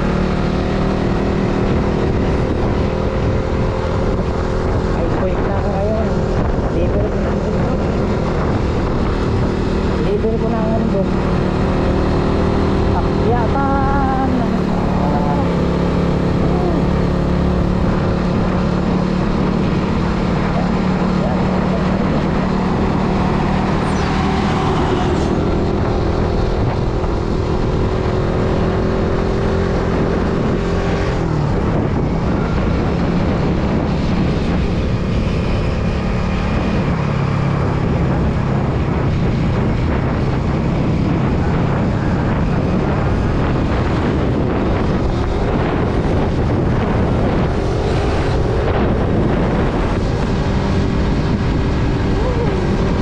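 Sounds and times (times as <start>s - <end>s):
motorcycle engine running: 0.0s - 53.0s
wind on microphone: 0.0s - 53.0s.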